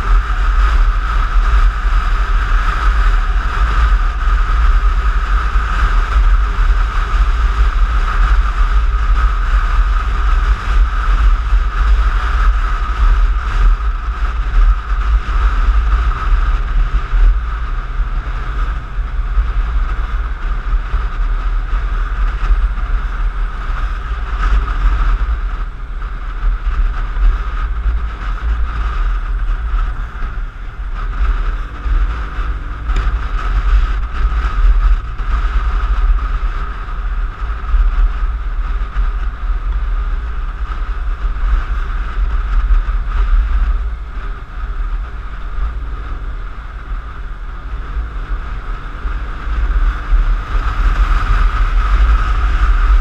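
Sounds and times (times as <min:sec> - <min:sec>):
scooter engine: 0:00.0 - 0:53.0
steady whine: 0:00.0 - 0:53.0
wind buffeting on microphone: 0:00.0 - 0:53.0.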